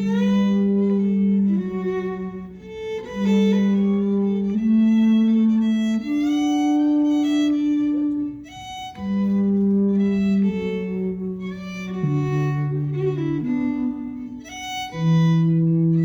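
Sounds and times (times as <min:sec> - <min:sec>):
bowed string instrument: 0:00.0 - 0:16.0.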